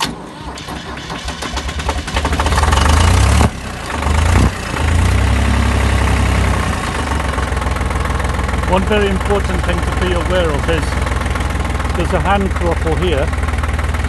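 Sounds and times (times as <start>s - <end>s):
tractor diesel engine idling: 0.0s - 14.0s.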